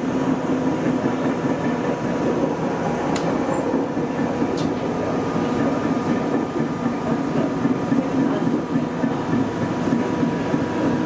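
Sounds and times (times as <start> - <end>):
train cab noise: 0.0 - 11.0.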